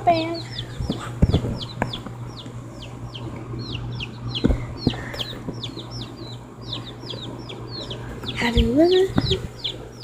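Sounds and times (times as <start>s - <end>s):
baby chicks peeping: 0.0s - 10.0s.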